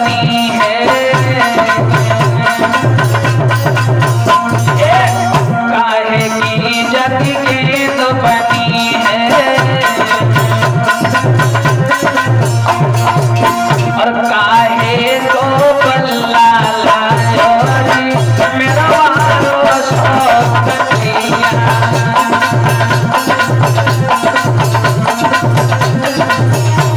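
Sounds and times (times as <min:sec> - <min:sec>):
hand drum rhythm: 0:00.0 - 0:26.9.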